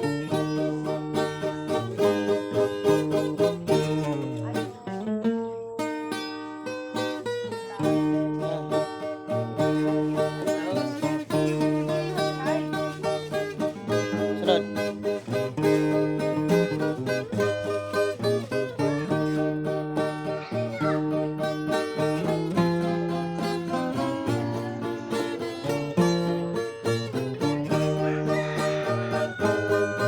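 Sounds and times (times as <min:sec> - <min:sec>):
plucked string instrument music: 0:00.0 - 0:30.0.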